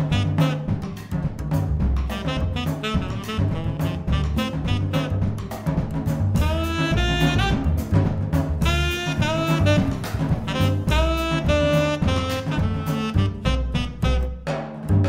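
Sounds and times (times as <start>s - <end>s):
tenor saxophone melody: 0.0s - 1.1s, 2.0s - 5.6s, 6.4s - 14.5s
piano: 0.0s - 14.3s
bass: 0.0s - 15.0s
drum kit: 0.0s - 15.0s.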